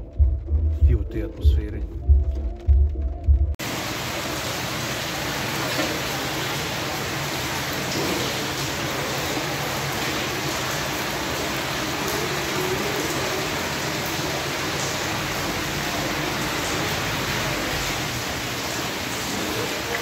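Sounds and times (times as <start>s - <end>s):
steady rain hiss: 3.6s - 20.0s.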